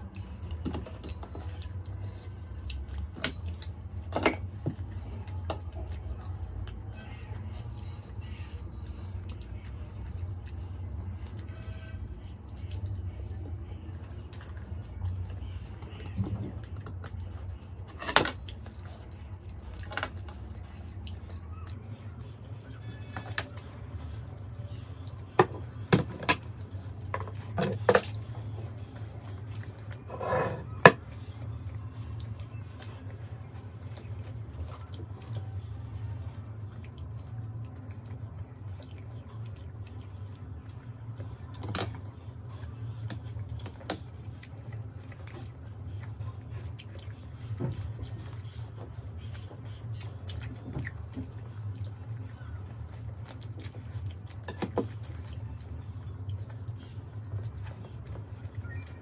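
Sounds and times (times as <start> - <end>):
people chewing soft food: 0.0 - 59.0.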